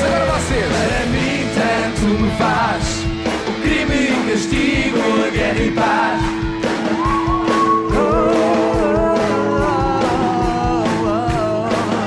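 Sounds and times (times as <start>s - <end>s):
live band playing: 0.0s - 12.0s
steady drum beat: 0.0s - 12.0s
voices singing together: 0.0s - 12.0s.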